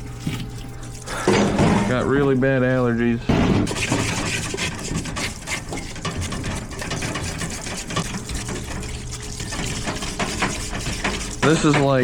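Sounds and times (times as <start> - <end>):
fluid pouring and splashing: 0.0 - 3.0, 3.7 - 12.0
pump humming: 0.0 - 12.0.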